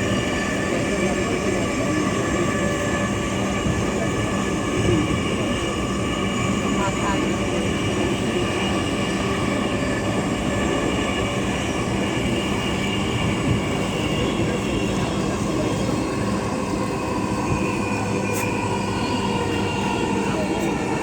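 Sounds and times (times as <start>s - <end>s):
train running inside carriage: 0.0s - 21.0s.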